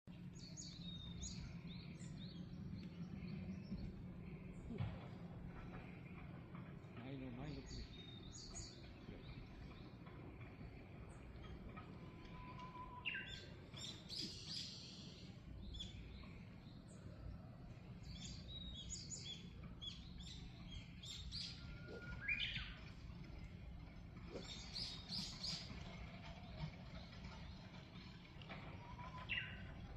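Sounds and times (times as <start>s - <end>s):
low background hum: 0.1s - 29.9s
songbirds chirping: 0.1s - 29.9s.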